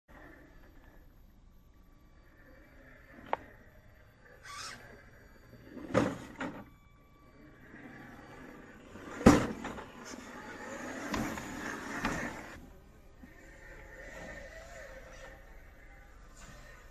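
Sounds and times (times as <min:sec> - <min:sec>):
electric motor whirring: 0:00.2 - 0:16.9.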